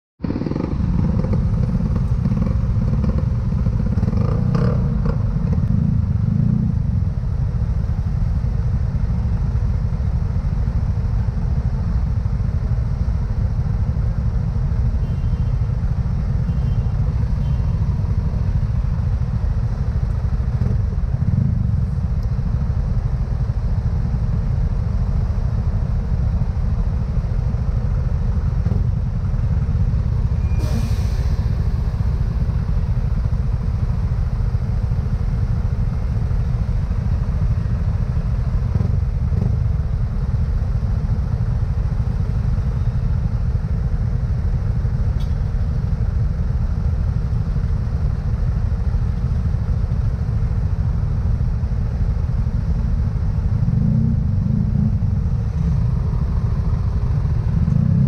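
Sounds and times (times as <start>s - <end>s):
motorcycle engine low rumble: 0.2s - 58.0s.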